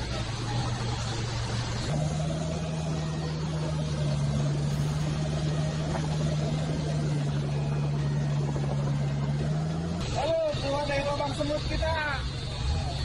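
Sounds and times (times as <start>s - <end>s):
engine droning at raised revs: 0.0s - 13.0s.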